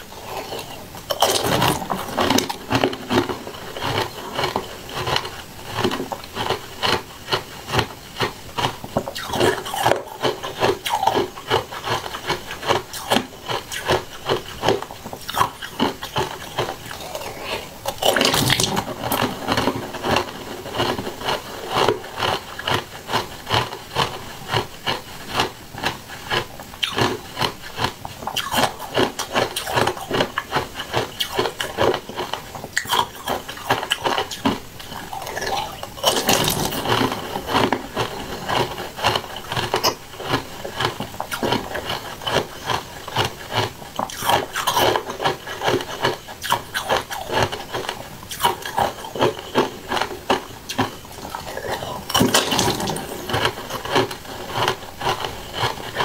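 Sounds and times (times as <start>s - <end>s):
wet chewing of jelly: 0.0s - 56.0s.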